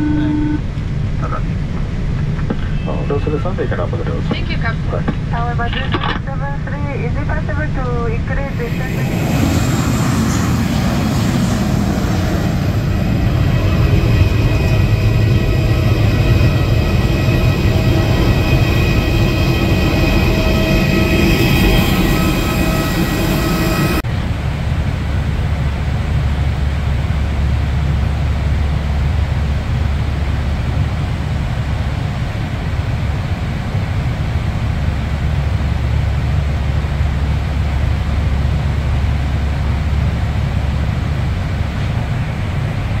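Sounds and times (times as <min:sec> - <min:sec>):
jet engine whine: 0:00.0 - 0:43.0
low engine rumble: 0:00.0 - 0:43.0.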